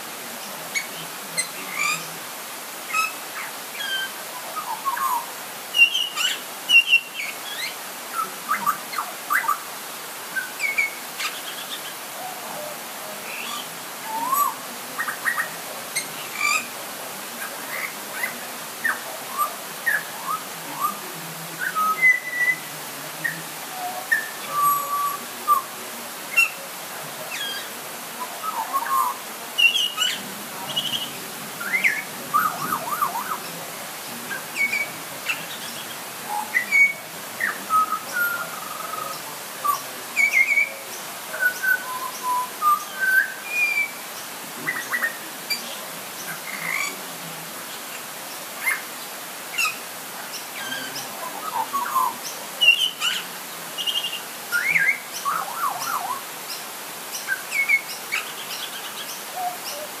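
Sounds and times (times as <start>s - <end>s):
light rain hissing: 0.0s - 60.0s.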